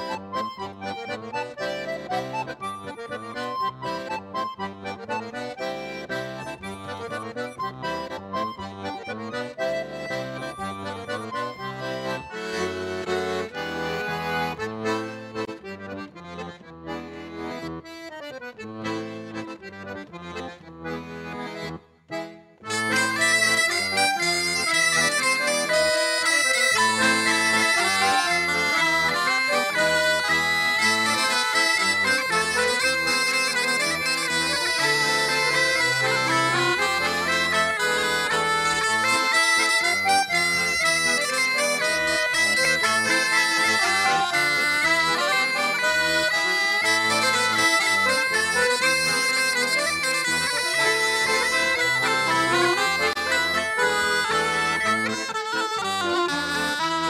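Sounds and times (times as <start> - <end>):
accordion dance tune: 0.0 - 57.0.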